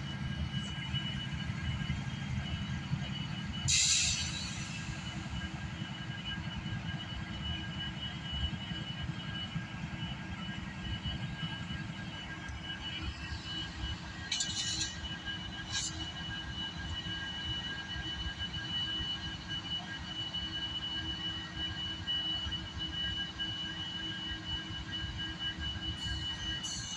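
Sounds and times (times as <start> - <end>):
diesel locomotive engine rumble: 0.0 - 26.9.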